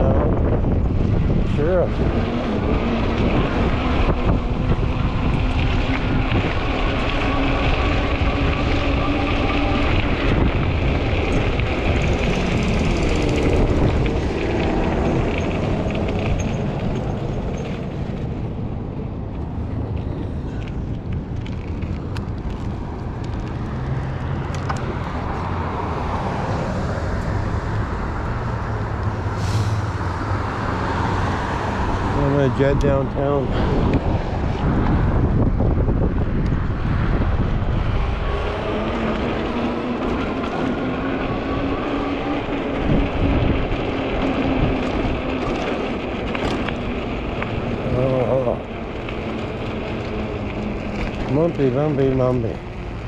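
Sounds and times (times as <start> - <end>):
passing road traffic: 0.0 - 53.0
wind rushing over microphone: 0.0 - 53.0.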